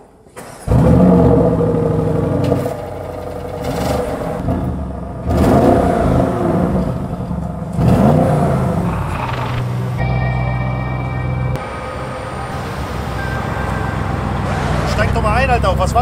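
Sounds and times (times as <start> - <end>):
car engine idling and revving: 0.4 - 16.0.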